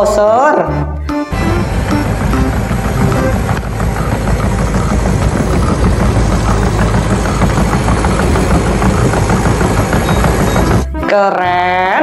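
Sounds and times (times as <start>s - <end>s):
bulldozer engine idling: 1.3s - 11.0s.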